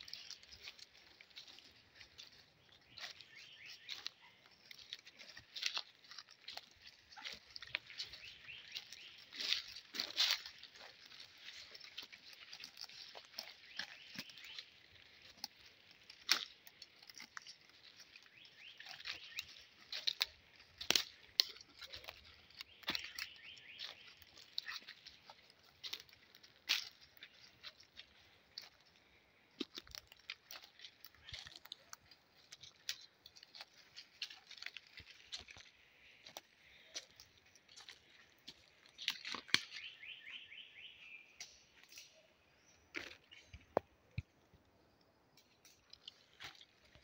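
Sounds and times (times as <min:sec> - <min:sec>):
footsteps crunching on dry leaves: 0:00.0 - 0:43.6.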